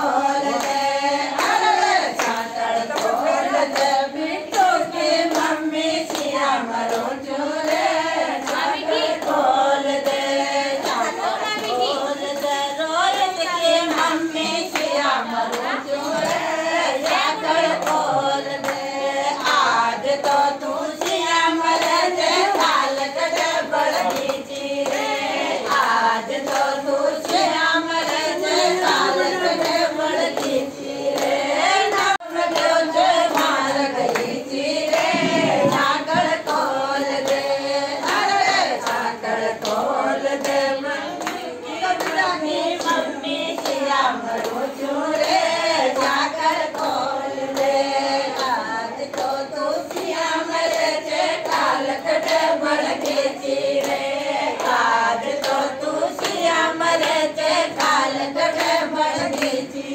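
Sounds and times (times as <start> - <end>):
women singing a folk song: 0.0 - 59.9.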